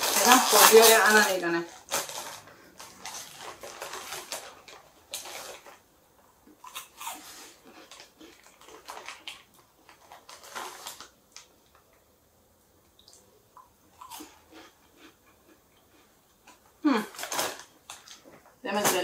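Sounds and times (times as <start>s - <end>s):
crunchy snacks being chewed: 0.0s - 11.9s, 13.6s - 18.5s
snack bag rustling: 0.0s - 12.0s, 14.0s - 19.0s.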